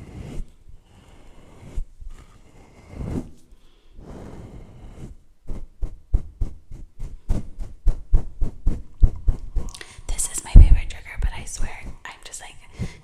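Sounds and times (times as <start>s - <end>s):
soft swish on microphone: 0.0s - 13.0s.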